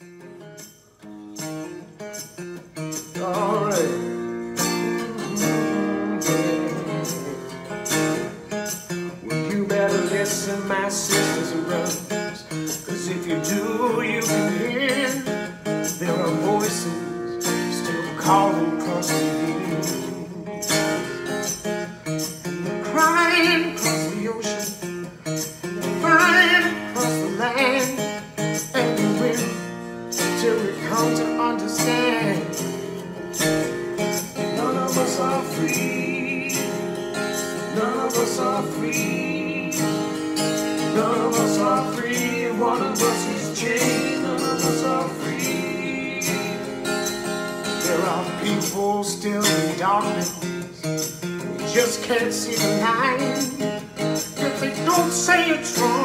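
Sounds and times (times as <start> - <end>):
guitar chords: 0.0 - 56.0
man singing: 2.8 - 21.6, 22.2 - 56.0.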